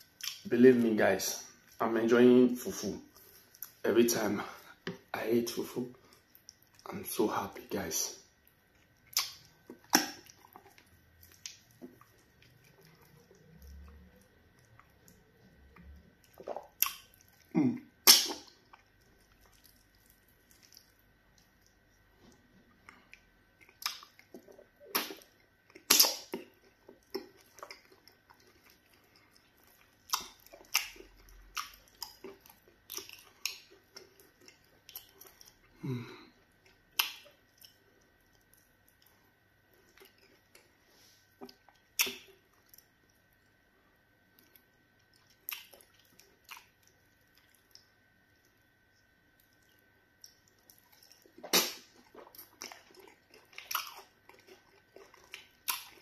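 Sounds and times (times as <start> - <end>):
lip smacks and squelches: 0.0 - 0.5, 3.1 - 3.8, 5.9 - 7.0, 8.4 - 35.8, 36.6 - 43.6, 44.3 - 56.0
wet chewing: 0.0 - 0.8, 5.9 - 7.1, 7.8 - 35.8, 36.4 - 43.6, 44.3 - 56.0.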